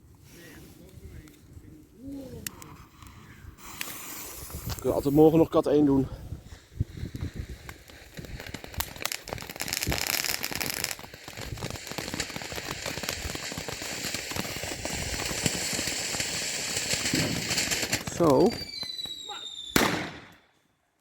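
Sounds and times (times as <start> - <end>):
firework crackling: 2.2 - 5.6, 6.4 - 20.4
firework hissing: 2.4 - 5.5, 6.3 - 20.2.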